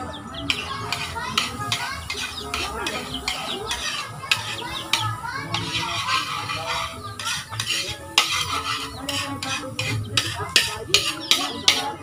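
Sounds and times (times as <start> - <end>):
metal spatula scraping wok: 0.4 - 12.0
food frying in butter: 0.5 - 12.0.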